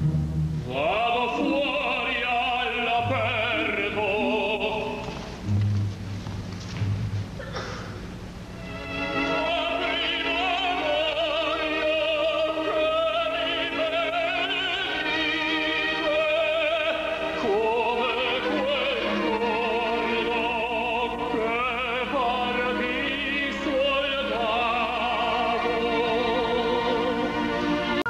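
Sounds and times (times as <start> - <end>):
operatic tenor singing: 0.6 - 5.6, 8.7 - 28.0.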